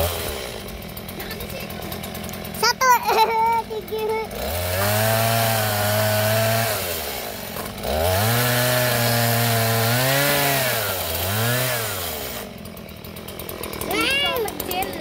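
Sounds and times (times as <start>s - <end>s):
chainsaw revving and idling: 0.0s - 15.0s.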